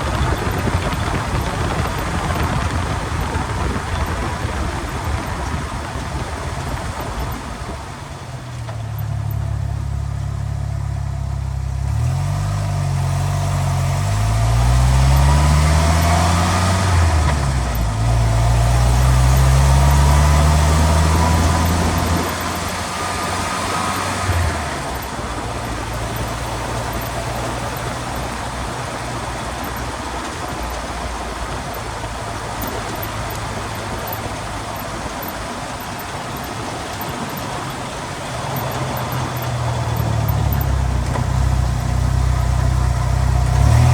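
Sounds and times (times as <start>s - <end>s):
engine and driveline hum: 0.0s - 43.9s
road noise: 0.0s - 43.9s.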